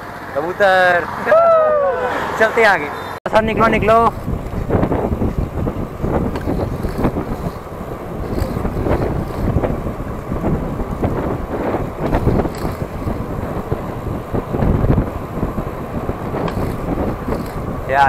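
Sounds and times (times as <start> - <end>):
wind buffeting microphone: 3.3 - 18.0.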